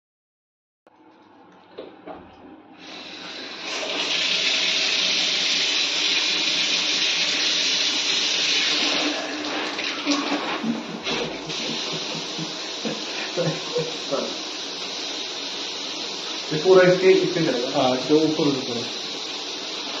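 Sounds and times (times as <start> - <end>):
shower water spraying: 2.8 - 20.0.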